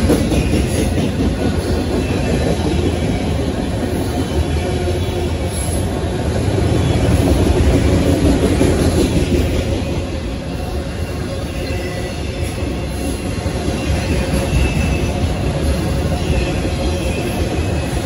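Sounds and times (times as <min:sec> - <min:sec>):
freight cars rumbling on rails: 0:00.0 - 0:18.0.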